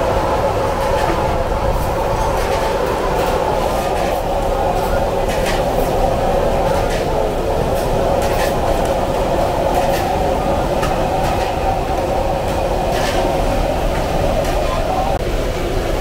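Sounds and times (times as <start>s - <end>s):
roar of busy kitchen: 0.0s - 15.6s.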